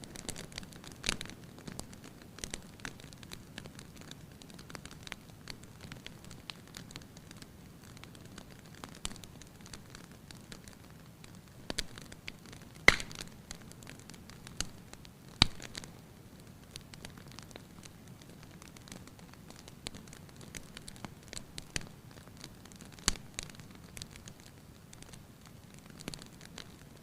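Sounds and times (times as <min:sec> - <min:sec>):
sharp pops of burning wood: 0:00.0 - 0:16.0, 0:16.7 - 0:27.0
wood fire crackling: 0:00.0 - 0:27.0.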